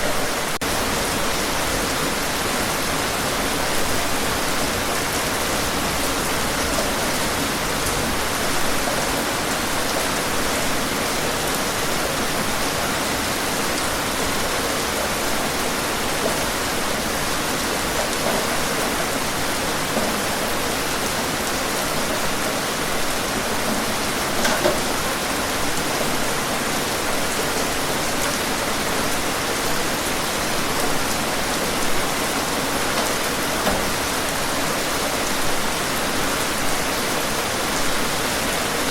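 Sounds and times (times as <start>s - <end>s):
louder rain drops: 0.0s - 38.9s
steady rain hiss: 0.0s - 38.9s.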